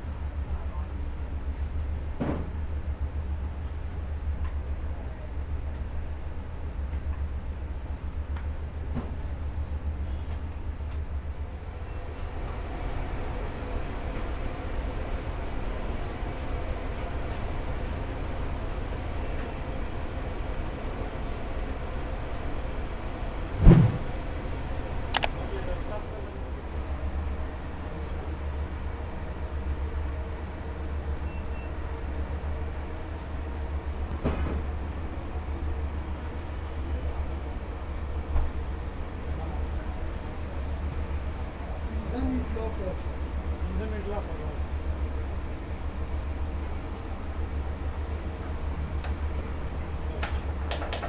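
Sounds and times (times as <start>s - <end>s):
low machinery rumble: 0.0s - 51.0s.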